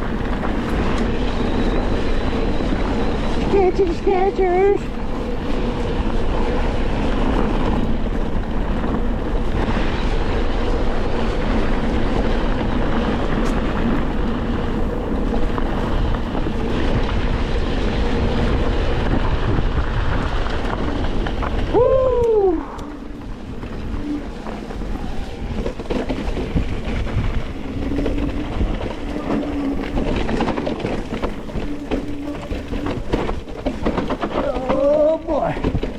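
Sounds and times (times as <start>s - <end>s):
bike tyres rolling on rocky trail: 0.0s - 35.9s
wind rushing over microphone: 0.0s - 35.9s.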